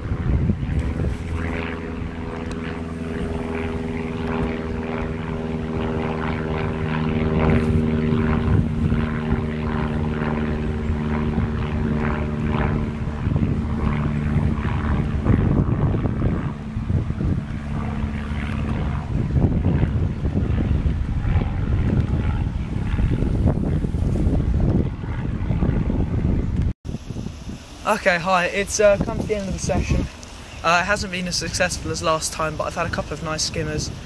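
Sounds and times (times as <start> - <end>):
engine drone: 0.0 - 34.0
wind buffeting microphone: 0.0 - 34.0.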